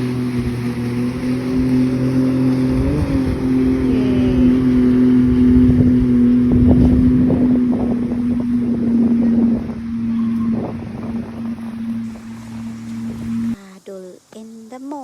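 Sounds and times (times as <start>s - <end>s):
motor humming: 0.0s - 13.6s
rough low rumbling: 0.0s - 13.6s.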